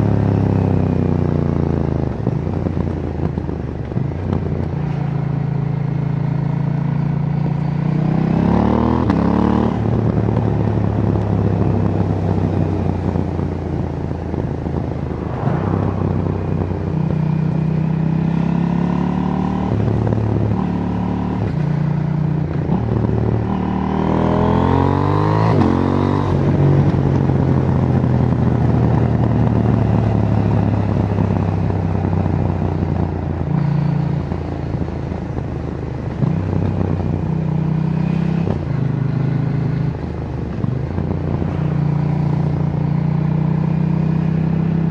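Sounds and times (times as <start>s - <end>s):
motorcycle engine under throttle: 0.0s - 44.9s.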